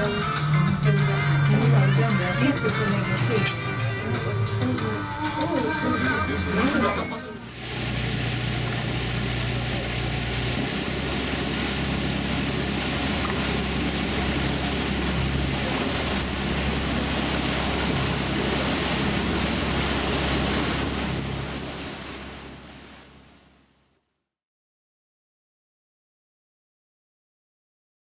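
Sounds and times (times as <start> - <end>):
motorboat engine humming: 0.0 - 23.8
churning wake water: 0.0 - 24.0.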